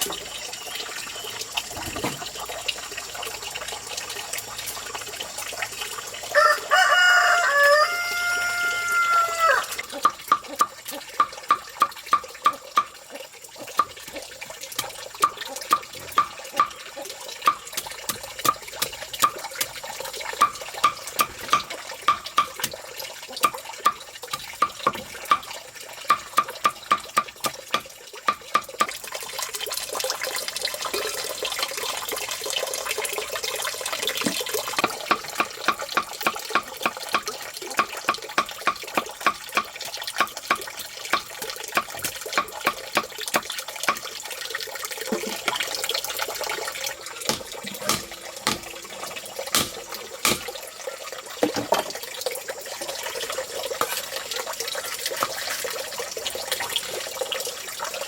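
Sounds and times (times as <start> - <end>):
water running and splashing: 0.0 - 58.0.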